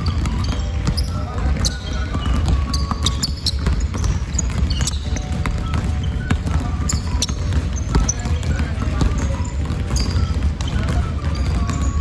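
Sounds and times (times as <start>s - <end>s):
basketball dribbling on hard court: 0.0s - 12.0s.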